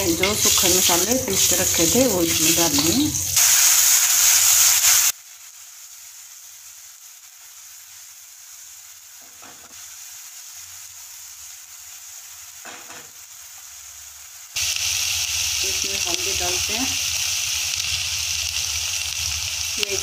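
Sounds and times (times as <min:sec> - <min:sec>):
spice paste sizzling in hot oil: 0:00.0 - 0:20.0.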